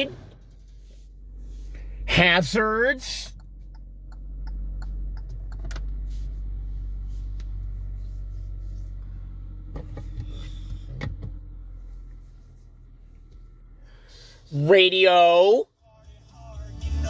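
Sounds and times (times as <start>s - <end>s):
low cabin hum: 0.0s - 17.0s.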